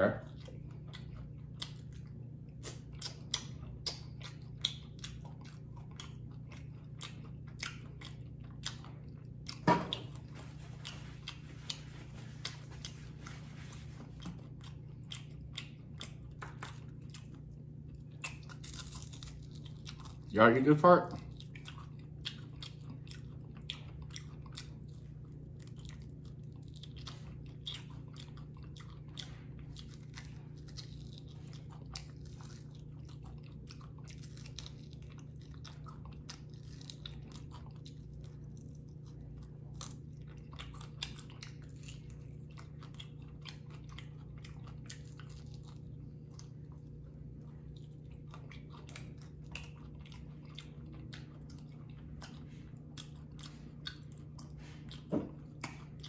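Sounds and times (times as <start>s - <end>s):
chewing crunchy fried chicken: 0.0s - 56.0s
steady low hum: 0.0s - 56.0s.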